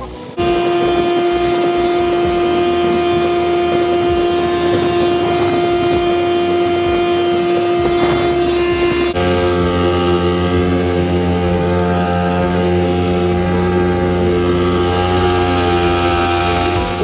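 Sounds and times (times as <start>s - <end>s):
outboard motor whine: 0.0s - 17.0s
rushing water: 0.0s - 17.0s
rushing wind: 0.0s - 17.0s.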